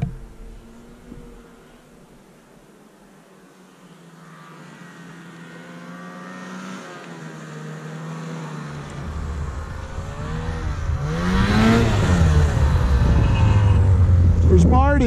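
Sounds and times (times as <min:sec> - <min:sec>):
snowmobile engine approaching: 0:00.1 - 0:15.0.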